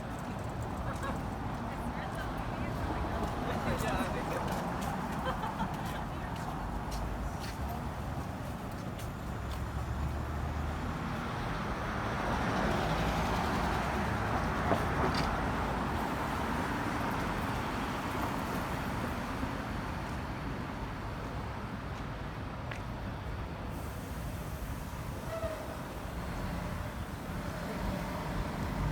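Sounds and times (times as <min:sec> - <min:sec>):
passing cars and buses: 0:00.0 - 0:28.9.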